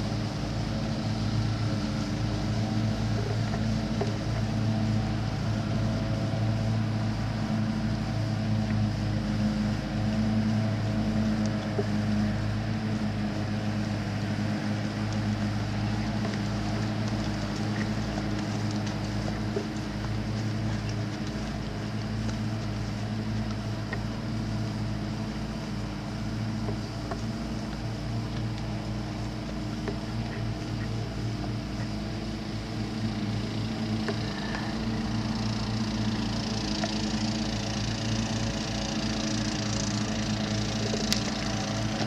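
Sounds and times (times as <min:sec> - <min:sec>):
steady mechanical hum: 0:00.0 - 0:42.0.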